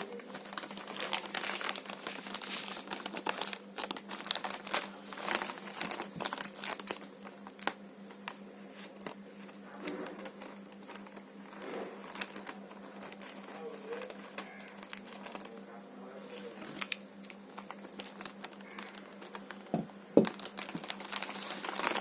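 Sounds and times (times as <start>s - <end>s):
packaging crinkling and tearing: 0.0s - 22.0s.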